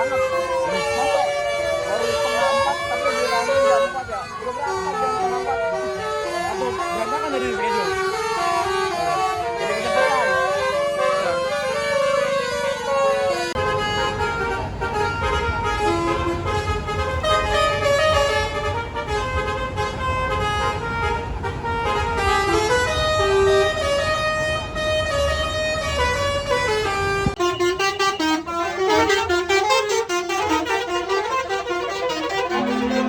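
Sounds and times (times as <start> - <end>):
low engine rumble: 0.0 - 33.0
musical bus horn playing a tune: 0.0 - 33.0.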